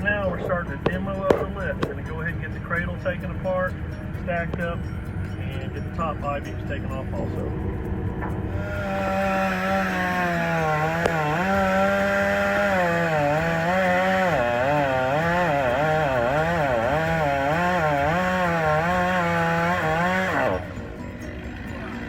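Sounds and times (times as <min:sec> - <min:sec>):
chainsaw running at high revs: 0:00.0 - 0:05.6, 0:08.5 - 0:22.0.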